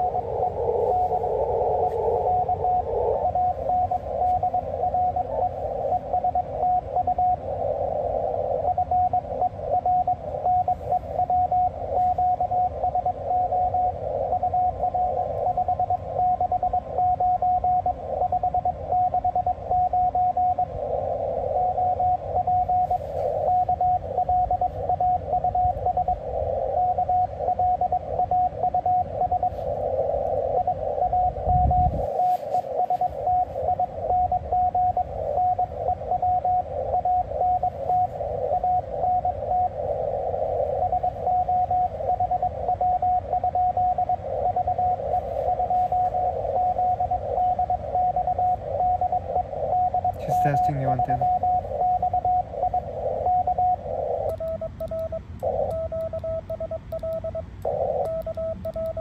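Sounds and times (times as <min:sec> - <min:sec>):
morse code beeps: 0:00.0 - 0:07.5, 0:08.6 - 0:59.0
radio band noise: 0:00.0 - 0:56.4, 0:57.3 - 0:59.0.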